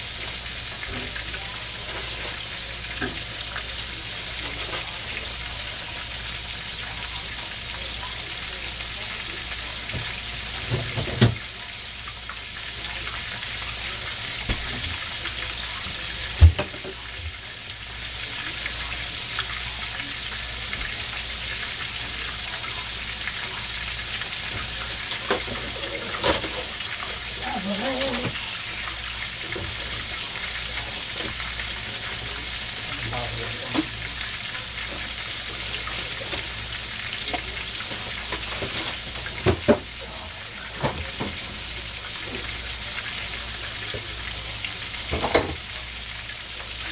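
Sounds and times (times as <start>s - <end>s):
oil sizzling while deep-frying: 0.0s - 46.9s.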